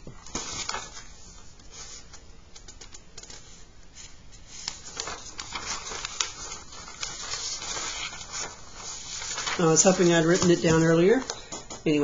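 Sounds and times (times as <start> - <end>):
paper rustling and crinkling: 0.0 - 11.7.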